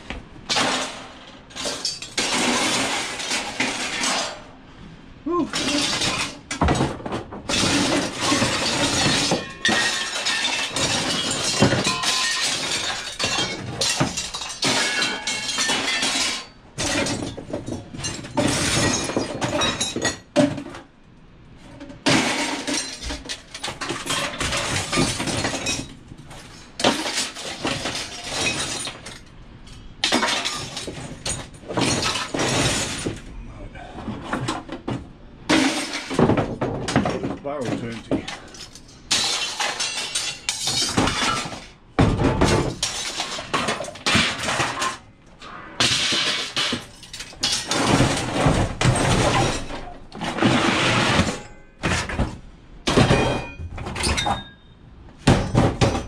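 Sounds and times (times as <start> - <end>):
scrap metal clattering onto pile: 0.5 - 4.6, 5.5 - 20.9, 21.7 - 33.3, 34.0 - 54.6.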